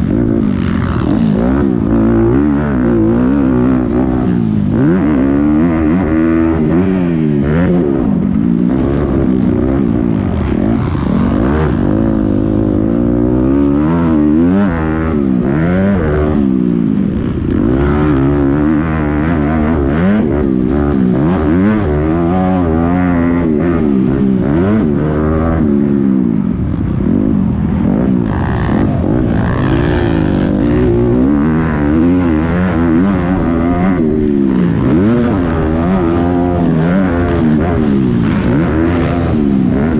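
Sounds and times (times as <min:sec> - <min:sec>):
motocross bike engines racing: 0:00.0 - 0:39.9.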